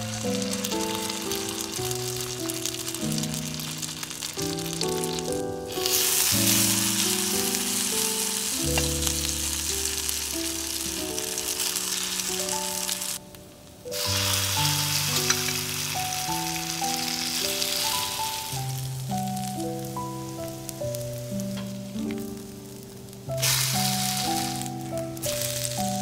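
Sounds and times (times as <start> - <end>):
food sizzling in a pan: 0.0 - 26.0
soft background music: 0.0 - 26.0.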